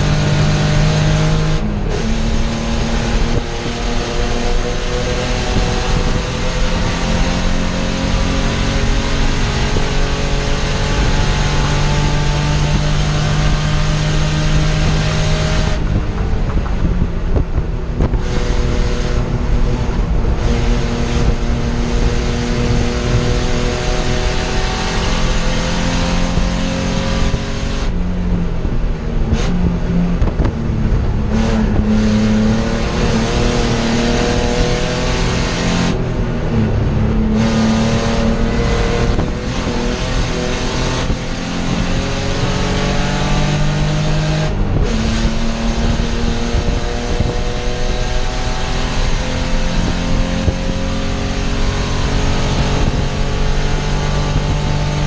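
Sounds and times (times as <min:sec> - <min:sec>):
race car engine at full throttle: 0:00.0 - 0:55.0.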